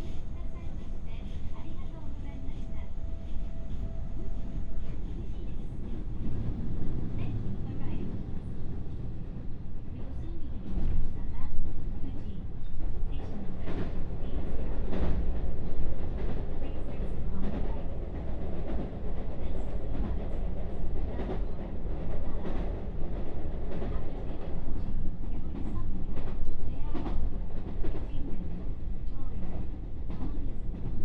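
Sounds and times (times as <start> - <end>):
train interior rumble: 0.0 - 31.0.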